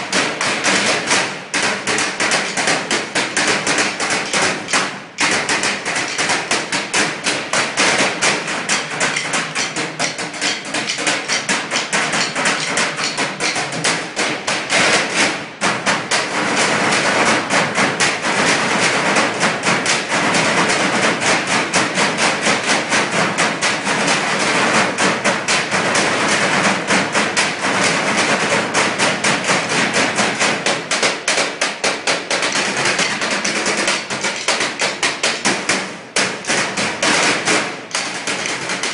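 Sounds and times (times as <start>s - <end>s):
drumming on metal trash cans: 0.0s - 38.9s.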